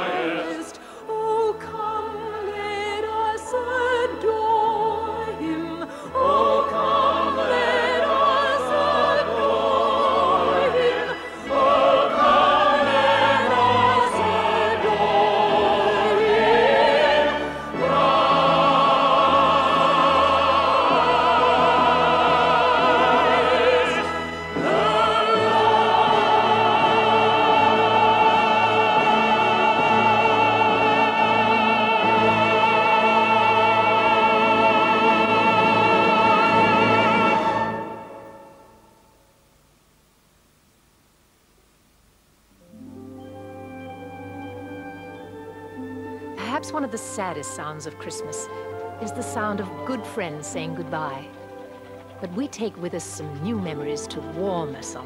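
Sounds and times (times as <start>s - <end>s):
operatic singing: 0.0s - 38.6s, 45.8s - 55.0s
orchestra: 0.0s - 38.7s, 42.6s - 55.0s.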